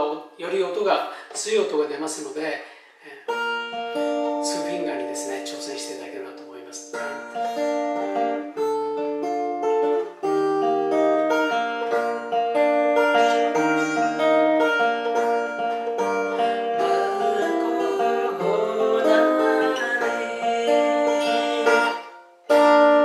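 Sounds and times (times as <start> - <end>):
fingerpicked acoustic guitar: 3.2 - 23.0.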